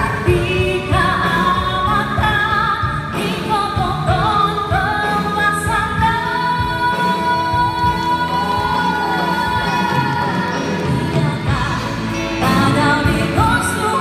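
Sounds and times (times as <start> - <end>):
amplified backing music: 0.0 - 14.0
woman singing into a microphone: 0.0 - 14.0.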